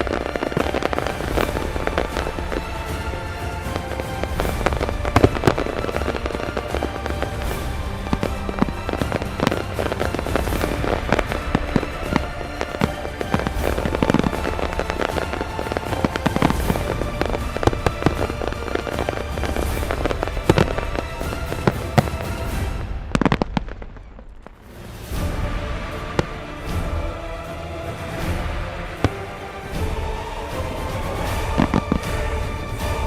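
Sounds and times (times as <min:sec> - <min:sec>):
background music: 0:00.0 - 0:33.0
fireworks crackling and banging: 0:00.0 - 0:33.0.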